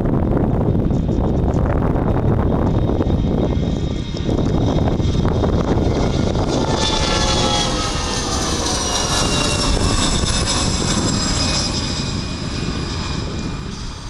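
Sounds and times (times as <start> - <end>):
high turbine whine: 0.0 - 14.0
jet engines roaring: 0.0 - 14.0.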